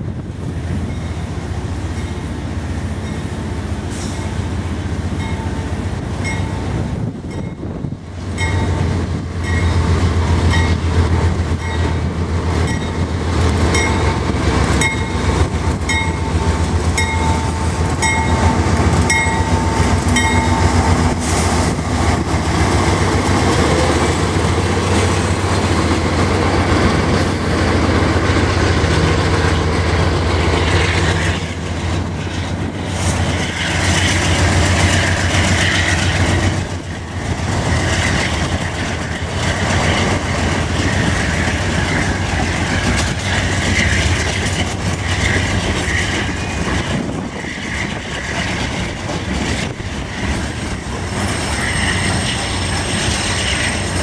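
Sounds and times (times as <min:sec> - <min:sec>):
diesel locomotives rumbling: 0:00.0 - 0:54.0
train wheels clacking on rail joints: 0:08.4 - 0:54.0.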